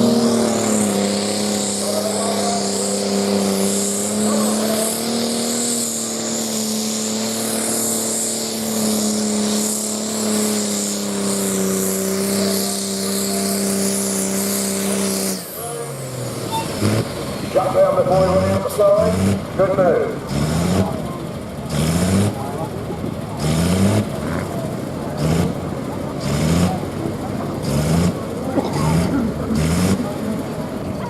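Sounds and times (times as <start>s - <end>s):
diesel tractor engine under load: 0.0s - 31.0s.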